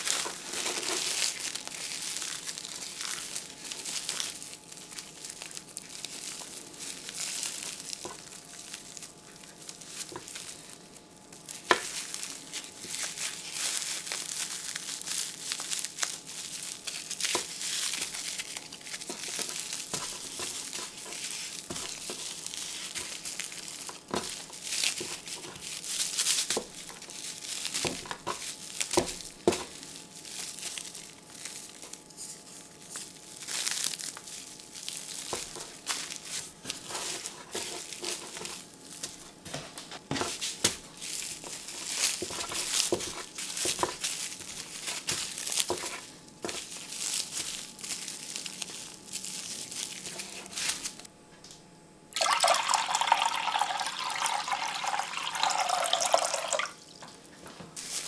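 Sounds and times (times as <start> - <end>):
cling wrap crinkling: 0.0 - 51.1, 52.2 - 58.0.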